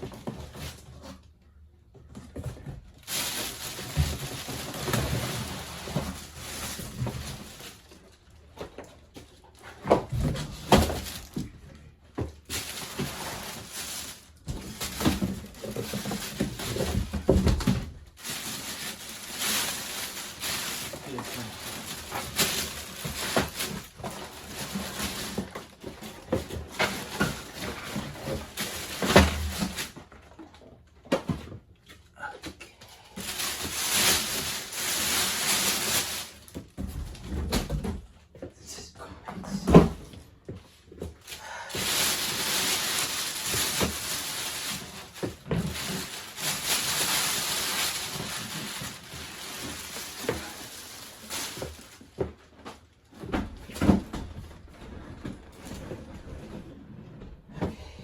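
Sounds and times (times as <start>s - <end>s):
packaging rustling and crinkling: 2.0s - 30.6s, 33.0s - 38.0s, 39.6s - 56.4s.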